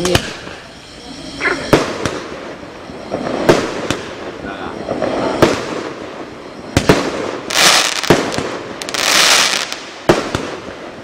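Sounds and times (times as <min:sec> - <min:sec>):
fireworks bangs: 0:00.0 - 0:11.0
fireworks hissing: 0:00.0 - 0:11.0.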